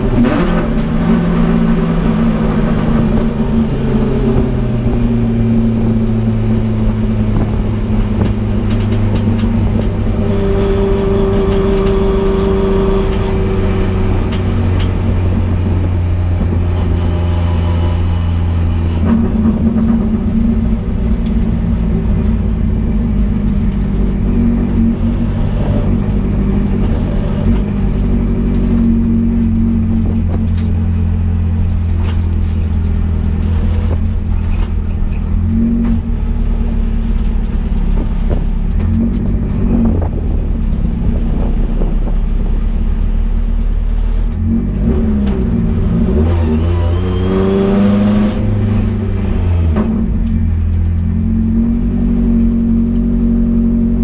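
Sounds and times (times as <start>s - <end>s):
car engine running at speed: 0.0s - 54.0s.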